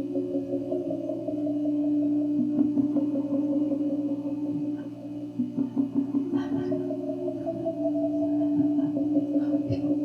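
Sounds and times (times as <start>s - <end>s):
droning tones: 0.0s - 10.0s.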